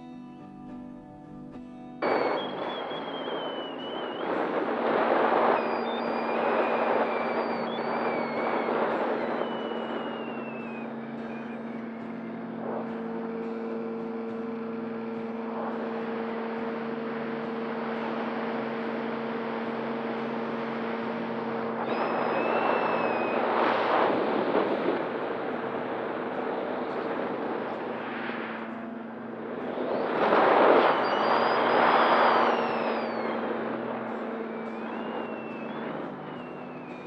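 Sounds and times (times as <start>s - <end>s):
model plane motor whine: 2.0s - 37.0s
rushing air: 2.0s - 37.0s.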